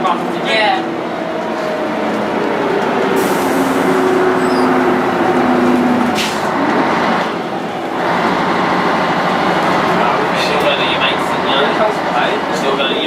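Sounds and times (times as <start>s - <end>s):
bus engine whine: 0.0s - 13.0s.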